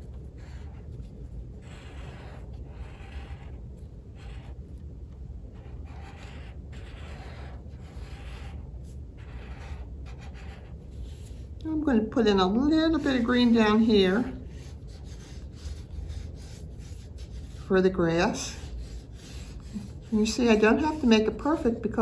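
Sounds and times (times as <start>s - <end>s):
marker scribbling on paper: 0.0s - 4.8s, 5.5s - 11.5s, 12.3s - 21.6s
low steady hum: 0.0s - 22.0s.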